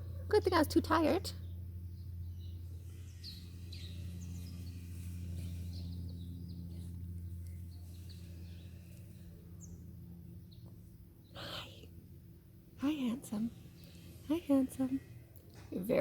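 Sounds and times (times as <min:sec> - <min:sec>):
birds chirping: 0:00.0 - 0:12.2, 0:12.8 - 0:16.0
steady low hum: 0:00.0 - 0:16.0.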